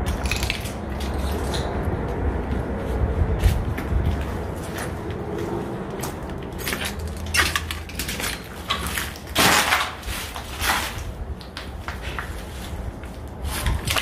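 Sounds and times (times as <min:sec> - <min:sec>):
footsteps on rubble: 0:00.0 - 0:14.0.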